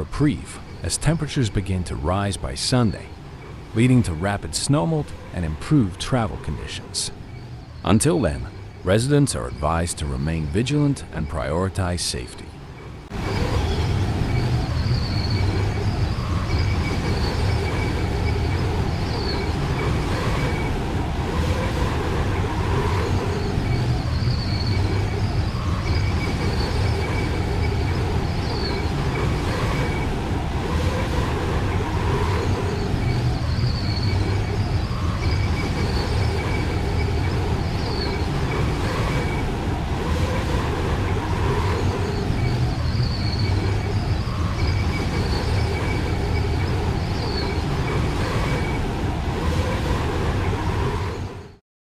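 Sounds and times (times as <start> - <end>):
low rumble of vehicles: 0.0 - 51.6.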